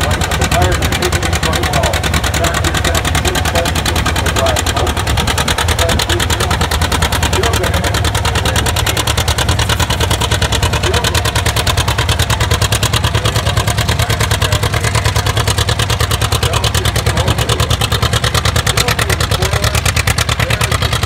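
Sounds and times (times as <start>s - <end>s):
diesel tractor engine under load: 0.0s - 21.0s.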